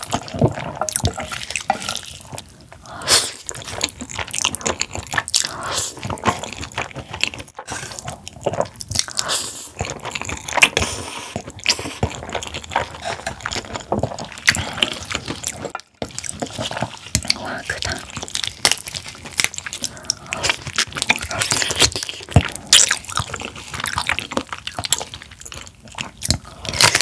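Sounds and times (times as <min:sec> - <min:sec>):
slurping and chewing noodles: 0:00.0 - 0:27.0.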